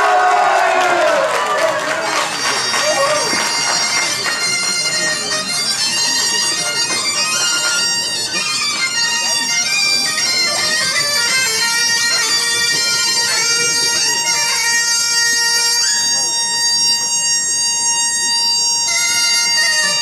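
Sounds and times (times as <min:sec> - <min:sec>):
bagpipes playing: 0:00.8 - 0:20.0.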